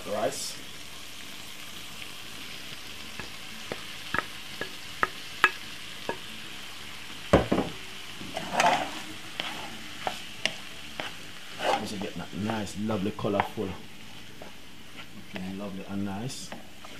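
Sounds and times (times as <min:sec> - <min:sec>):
food sizzling in a frying pan: 0:00.0 - 0:16.9.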